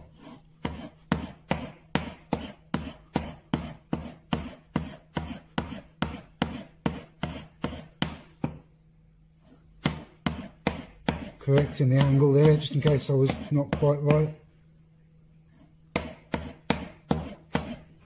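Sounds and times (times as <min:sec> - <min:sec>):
chisel rubbing on a strop: 0:00.0 - 0:08.3, 0:09.4 - 0:14.4, 0:15.6 - 0:18.0.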